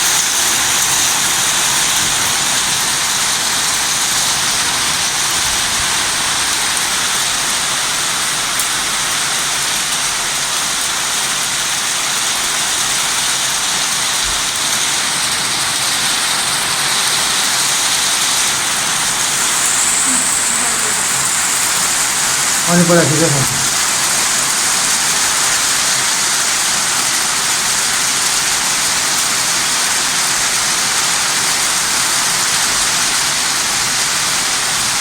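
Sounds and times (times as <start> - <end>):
torrential rain pouring: 0.0 - 35.0.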